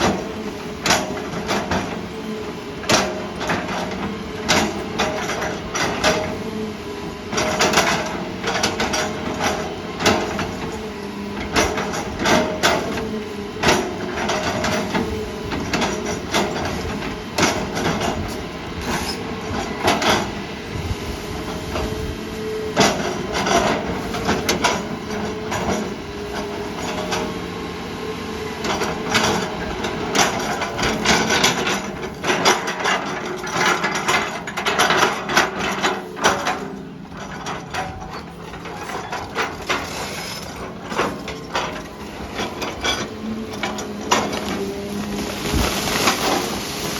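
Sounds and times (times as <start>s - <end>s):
machine clanking and knocking: 0.0s - 2.0s, 2.8s - 6.4s, 7.3s - 10.7s, 11.4s - 20.4s, 22.8s - 27.4s, 28.6s - 46.9s
excavator engine humming: 0.0s - 46.9s.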